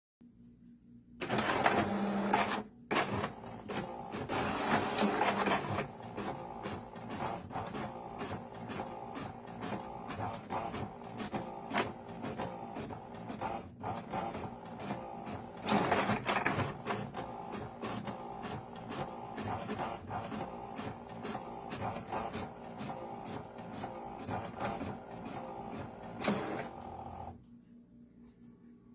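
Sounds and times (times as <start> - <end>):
inkjet printer printing: 1.2 - 27.4
print head clicking: 1.2 - 27.4.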